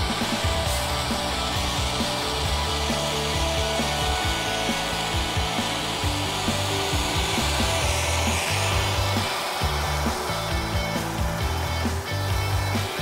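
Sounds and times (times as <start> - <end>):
background music: 0.0 - 13.0
toy truck electric motor whir: 0.0 - 13.0.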